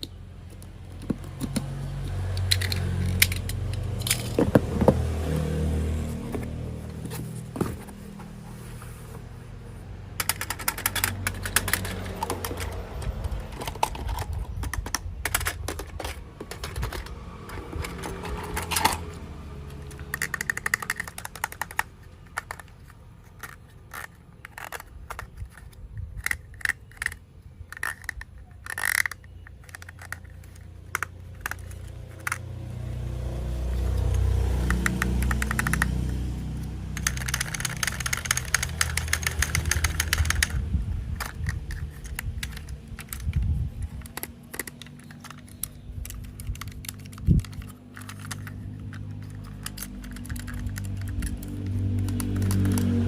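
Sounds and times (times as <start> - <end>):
plastic toy parts clicking: 0.0 - 4.9, 10.2 - 32.7, 33.7 - 53.0.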